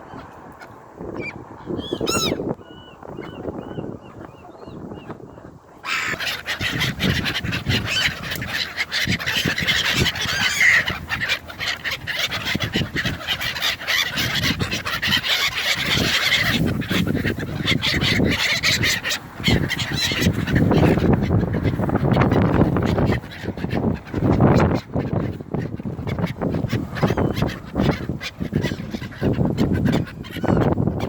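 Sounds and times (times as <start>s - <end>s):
seagulls calling and squawking: 0.0s - 31.0s.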